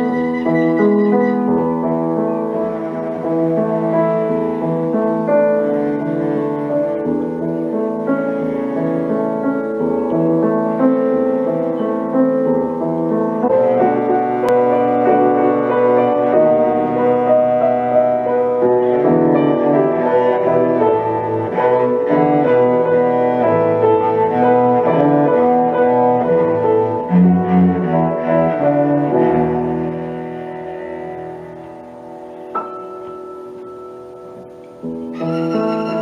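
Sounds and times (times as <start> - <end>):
cello and piano classical music: 0.0 - 36.0.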